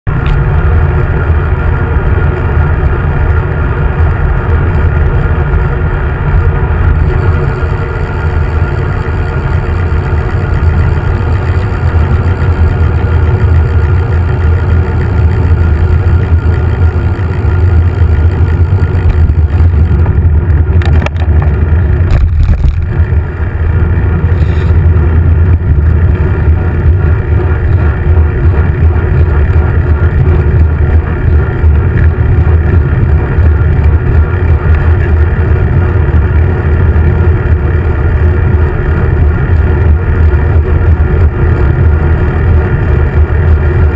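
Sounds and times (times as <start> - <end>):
wind and road rumble: 0.0 - 43.9.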